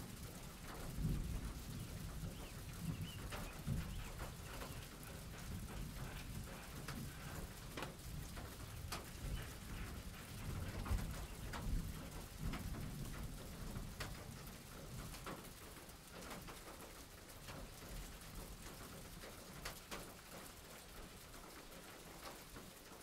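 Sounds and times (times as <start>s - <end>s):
steady rain: 0.0s - 23.0s
sharp drip ticks: 0.3s - 22.7s.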